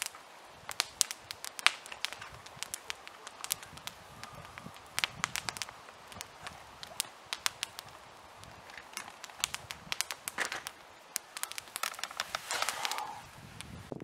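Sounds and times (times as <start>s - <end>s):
campfire crackling and popping: 0.0s - 14.0s
rustle: 0.0s - 14.0s.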